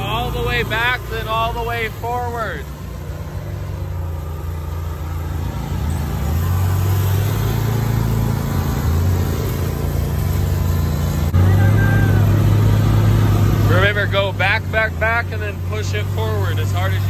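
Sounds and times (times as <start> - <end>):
riding lawn mower engine running: 0.0 - 17.0.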